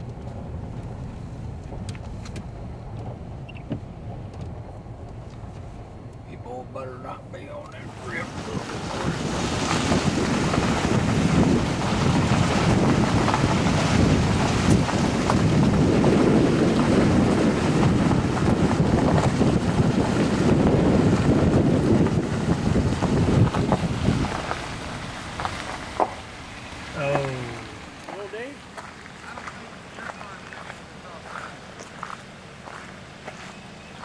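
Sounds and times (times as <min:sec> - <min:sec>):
wind and road noise in vehicle: 0:00.0 - 0:34.0.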